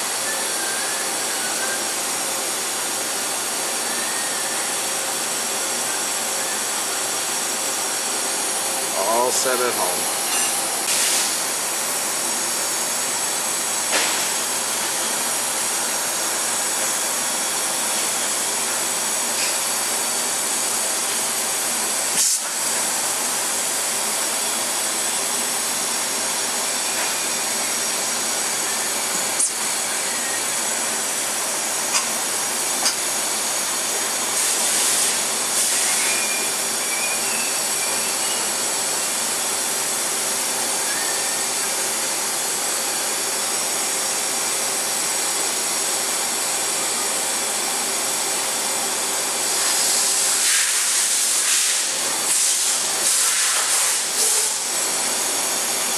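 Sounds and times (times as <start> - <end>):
machining center whirring: 0.0 - 50.4.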